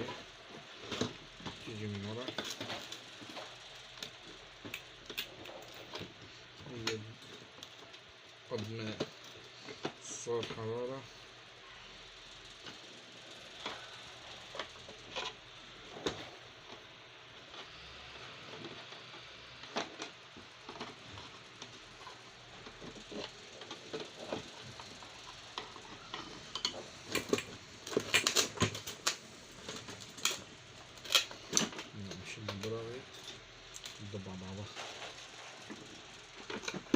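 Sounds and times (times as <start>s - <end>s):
plastic parts and screws clicking: 0.0s - 11.0s, 12.4s - 36.9s.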